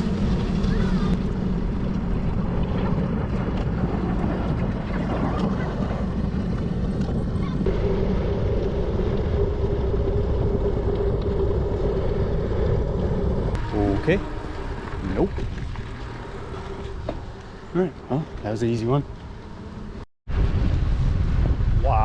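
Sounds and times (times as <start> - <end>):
rolling road noise: 0.0 - 21.8
wind rushing over microphone: 0.0 - 22.0.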